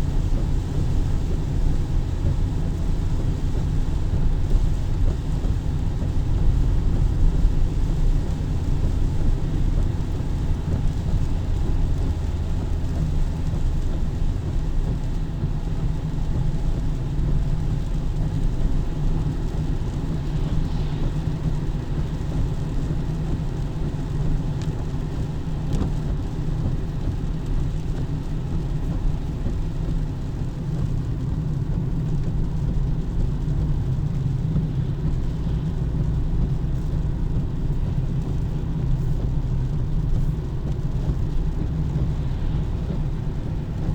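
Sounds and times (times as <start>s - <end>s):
road traffic rumble: 0.0s - 43.9s
steady rain: 0.0s - 43.9s.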